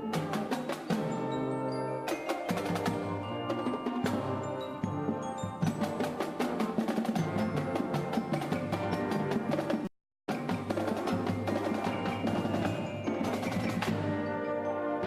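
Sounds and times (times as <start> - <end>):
band playing up-tempo piece: 0.0 - 15.0.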